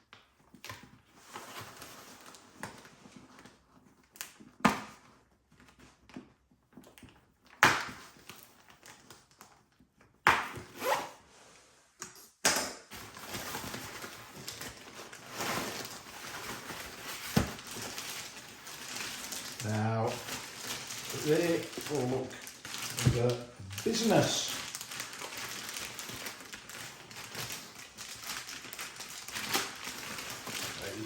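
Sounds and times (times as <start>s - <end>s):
packaging rustling and crinkling: 0.3s - 11.0s, 12.9s - 31.0s.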